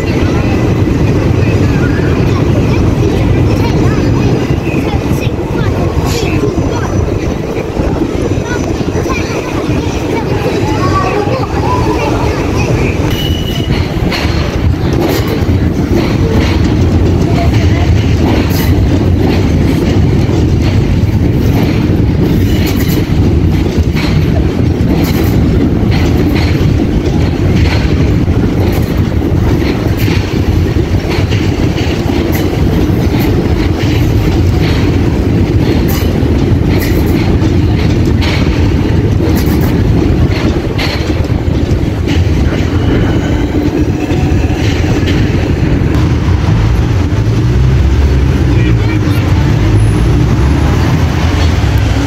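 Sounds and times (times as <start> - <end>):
train rumbling over steel bridge: 0.0 - 52.0
wheels clicking over rail joints: 0.0 - 52.0.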